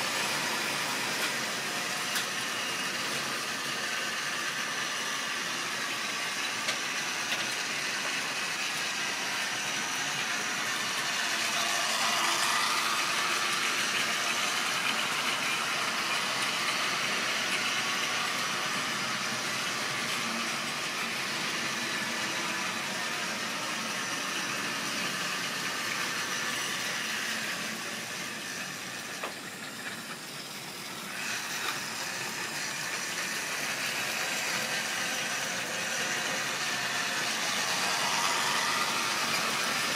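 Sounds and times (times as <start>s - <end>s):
model train wheels clicking on rails: 0.0s - 39.9s
small electric motor whirring: 0.0s - 39.9s.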